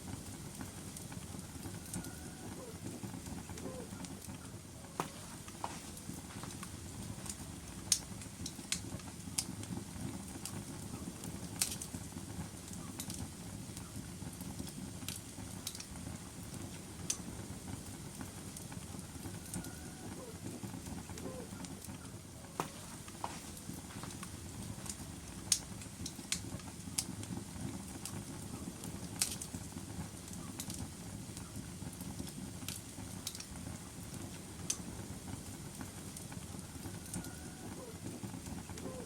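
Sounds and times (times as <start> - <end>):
fire crackles and pops: 0.0 - 39.0
low rumble of fire: 0.0 - 39.0.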